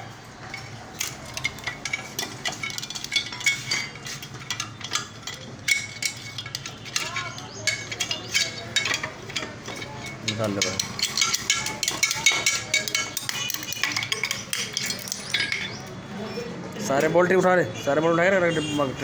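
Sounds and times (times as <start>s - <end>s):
metal tools and bolts clinking: 0.0s - 19.0s.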